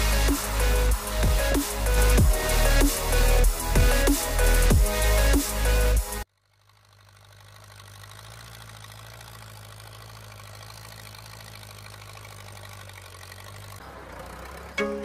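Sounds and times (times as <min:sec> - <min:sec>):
tractor diesel engine droning: 0:00.0 - 0:15.0.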